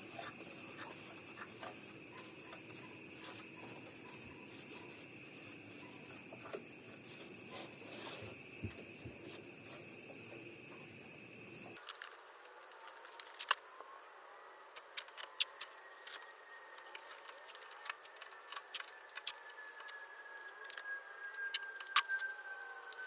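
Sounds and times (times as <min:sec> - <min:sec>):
steady high-pitched whine: 0:00.0 - 0:23.0.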